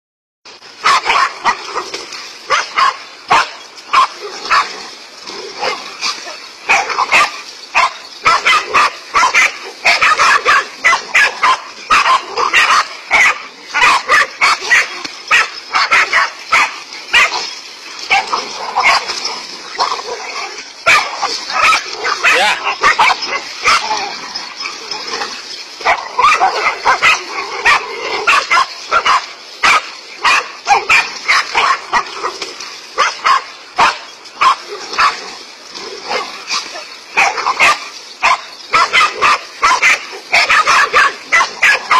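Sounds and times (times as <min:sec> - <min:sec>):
dogs barking: 0:00.8 - 0:41.9.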